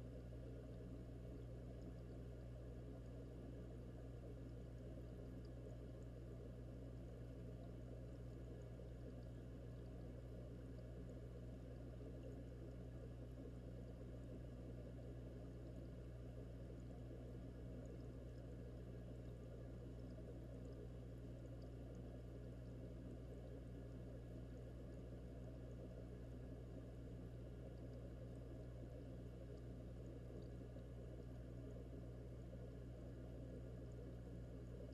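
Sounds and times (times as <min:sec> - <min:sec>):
air stones bubbling underwater: 0:00.0 - 0:34.9
constant low hum: 0:00.0 - 0:34.9
faint ticks: 0:00.0 - 0:34.9.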